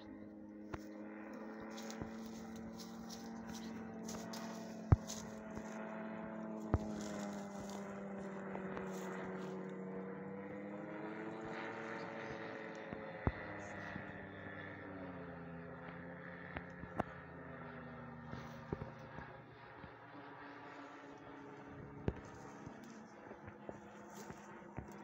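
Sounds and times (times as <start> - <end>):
drone engine and propeller humming: 0.0 - 25.0.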